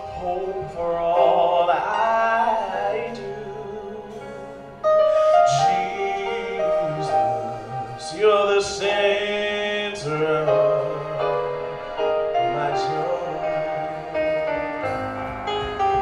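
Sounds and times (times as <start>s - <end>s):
man singing gospel: 0.0s - 16.0s
sustained chords: 0.0s - 16.0s.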